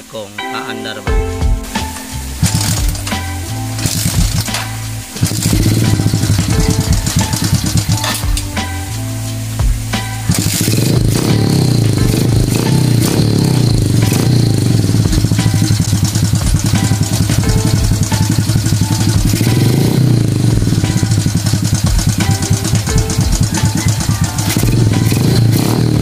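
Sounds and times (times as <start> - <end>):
engine revs rising and falling: 2.3 - 8.5, 10.2 - 26.0
motorcycle engine kick-started: 2.4 - 8.4, 10.3 - 26.0.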